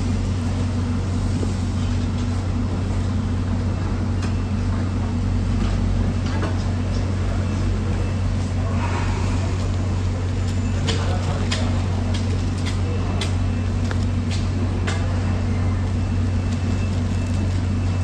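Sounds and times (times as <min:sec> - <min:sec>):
machinery droning: 0:00.0 - 0:18.0.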